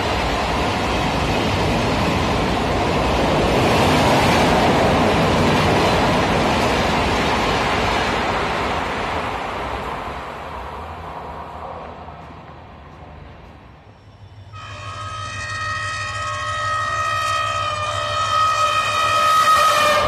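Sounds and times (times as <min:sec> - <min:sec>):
train rushing past: 0:00.0 - 0:20.0.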